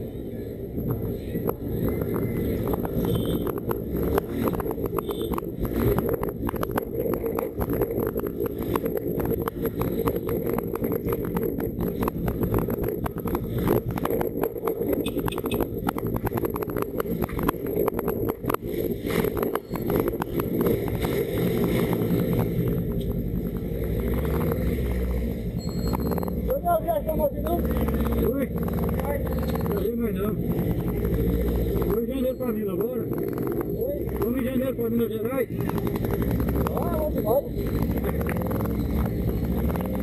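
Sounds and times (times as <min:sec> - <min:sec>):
motorcycle engine running: 0:00.9 - 0:40.0.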